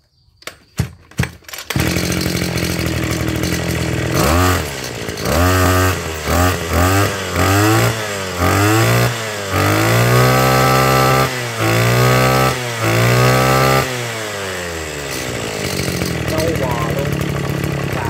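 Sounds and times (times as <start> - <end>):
recoil starter pull: 0.4 - 18.0
two-stroke engine idling and revving: 1.4 - 18.0.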